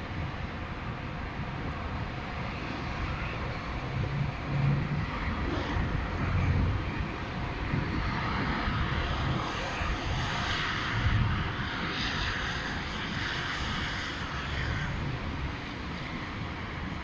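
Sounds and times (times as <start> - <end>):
blizzard wind gusting: 0.0 - 17.0
wind buffeting microphone: 0.0 - 17.0.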